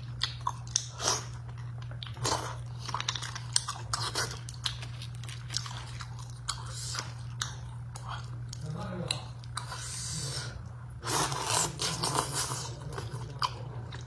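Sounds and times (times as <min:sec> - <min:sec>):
steady low hum: 0:00.0 - 0:14.0
wet slurping and chewing: 0:00.1 - 0:14.0.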